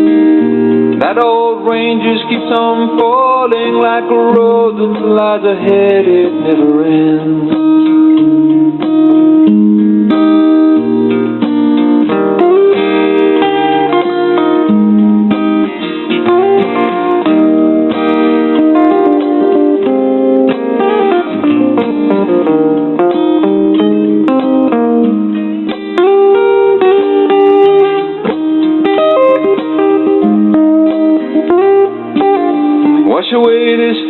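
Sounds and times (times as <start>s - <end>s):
chord backing: 0.0s - 34.0s
guitar melodic solo: 0.0s - 34.0s.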